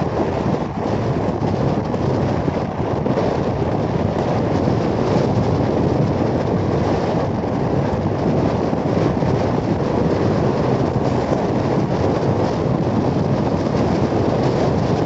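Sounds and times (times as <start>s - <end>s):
motorcycle ride noise: 0.0s - 15.0s
wind noise on microphone: 0.0s - 15.0s.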